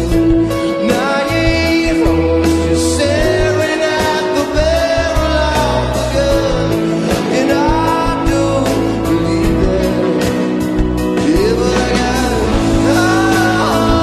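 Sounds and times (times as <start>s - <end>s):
bass: 0.0s - 14.0s
person singing long gliding notes: 0.0s - 14.0s
steady drum beat: 0.0s - 14.0s.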